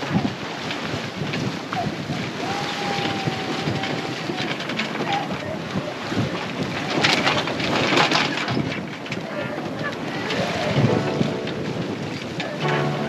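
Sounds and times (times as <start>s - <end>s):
water noise: 0.0s - 13.0s
wind buffeting microphone: 0.0s - 13.0s.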